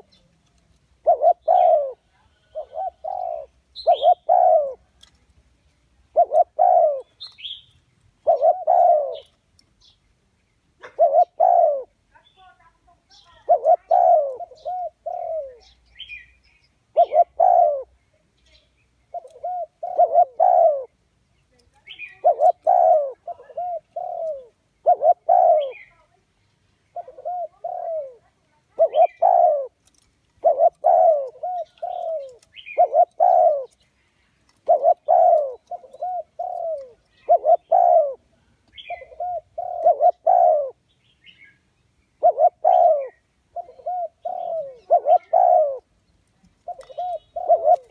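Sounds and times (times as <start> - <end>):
dove cooing: 0.0 - 5.2, 6.0 - 7.6, 8.2 - 9.4, 10.8 - 12.0, 13.2 - 16.1, 16.9 - 18.0, 19.1 - 26.1, 26.9 - 40.8, 42.1 - 47.9.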